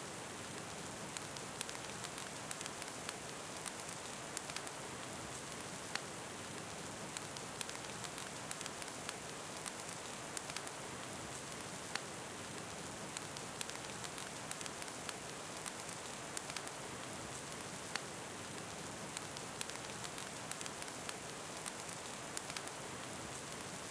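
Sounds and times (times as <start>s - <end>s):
steady rain hiss: 0.0s - 23.9s
wood fire crackling: 0.2s - 23.9s.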